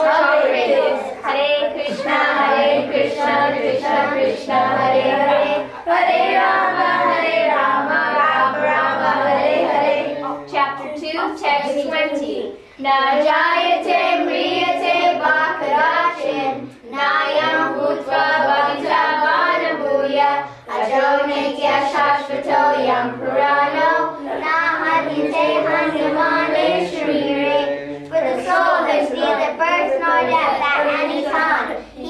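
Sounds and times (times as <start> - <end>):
children singing in unison: 0.0 - 10.6, 13.0 - 32.0.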